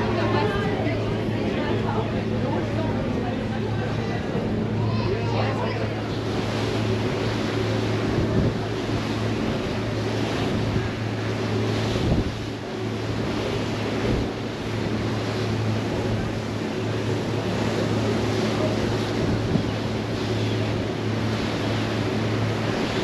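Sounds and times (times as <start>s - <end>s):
ferry engines droning: 0.0s - 23.0s
rushing water: 0.0s - 23.0s
wind buffeting microphone: 0.0s - 23.0s.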